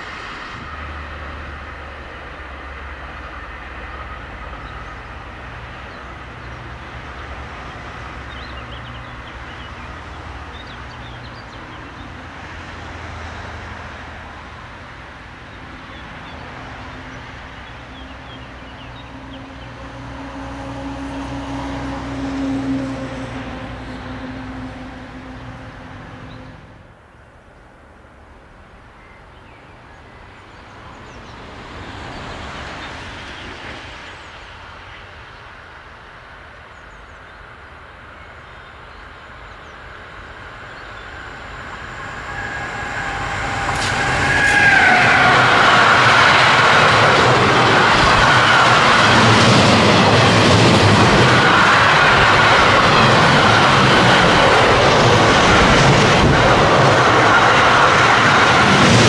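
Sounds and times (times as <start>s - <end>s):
locomotive rumble passing: 0.0s - 26.9s, 30.3s - 59.0s.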